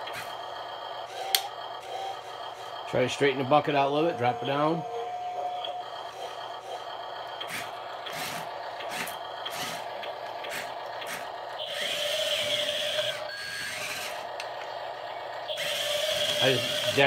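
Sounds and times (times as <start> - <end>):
steady motor whine: 0.0 - 17.0
toy motors and gears grinding: 0.0 - 17.0.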